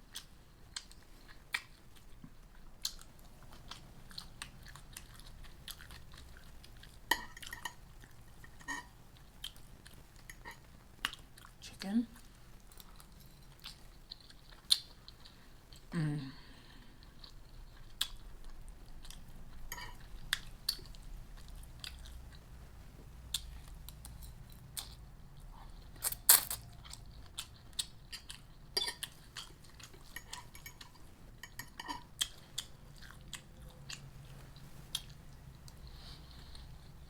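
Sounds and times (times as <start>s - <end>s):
person chewing food: 0.0s - 11.6s, 12.2s - 15.9s, 16.6s - 37.0s.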